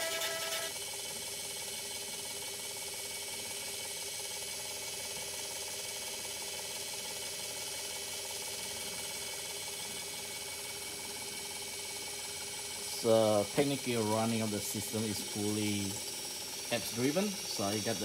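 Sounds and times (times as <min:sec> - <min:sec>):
pumps and motors whirring: 0:00.0 - 0:03.4, 0:04.5 - 0:18.0.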